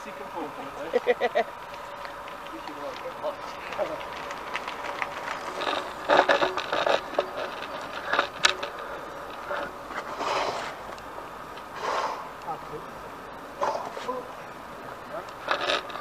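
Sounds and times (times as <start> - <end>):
handling scraping and rustling: 0.8 - 12.9, 13.5 - 16.0.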